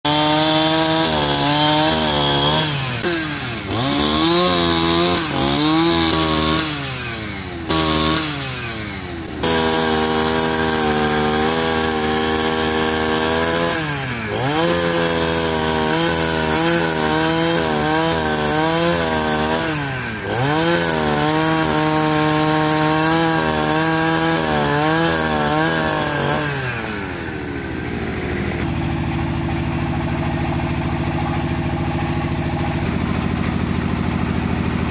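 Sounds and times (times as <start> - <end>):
chainsaw cutting through log: 0.0 - 34.9
chainsaw idling: 0.0 - 34.9.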